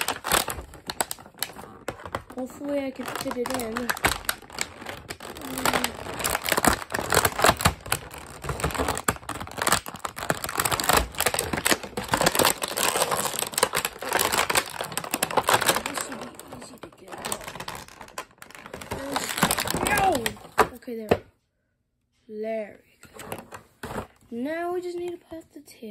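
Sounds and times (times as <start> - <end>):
plastic packaging crackling: 0.0 - 20.8.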